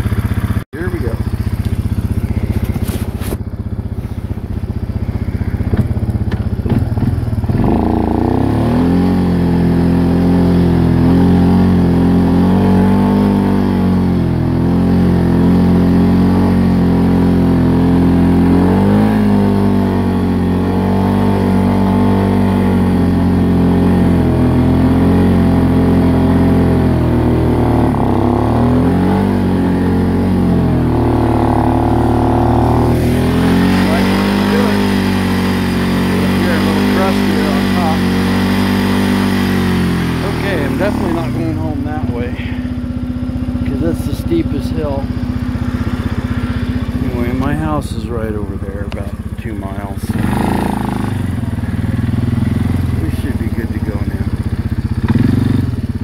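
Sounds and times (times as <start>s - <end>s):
quad engine revving under load: 0.0s - 56.0s.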